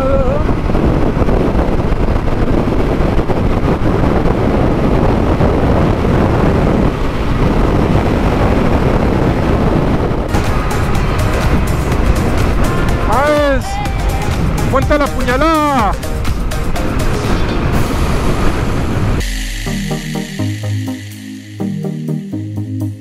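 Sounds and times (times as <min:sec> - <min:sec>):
wind buffeting microphone: 0:00.0 - 0:19.2.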